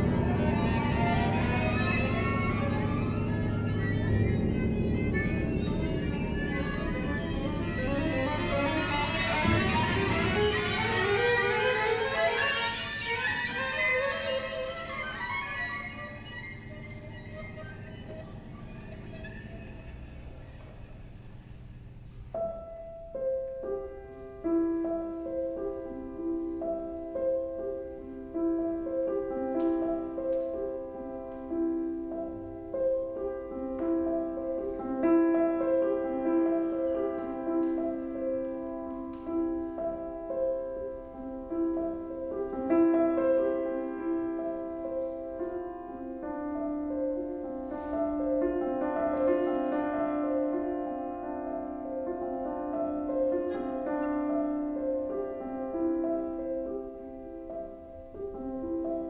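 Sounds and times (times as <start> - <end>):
chamber music piano violin cello: 0.0 - 59.0.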